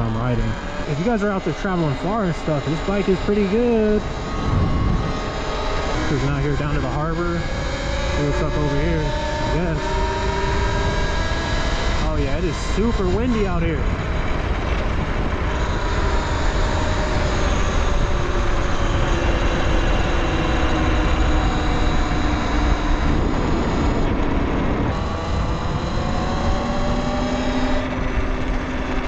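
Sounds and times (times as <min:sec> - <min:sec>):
electric motor and chain whine: 0:00.0 - 0:29.0
wind buffeting microphone: 0:00.0 - 0:29.0.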